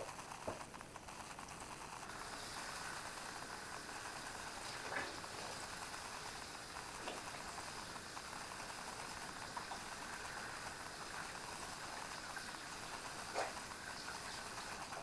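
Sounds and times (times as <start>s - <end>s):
running water hissing: 0.0s - 15.0s.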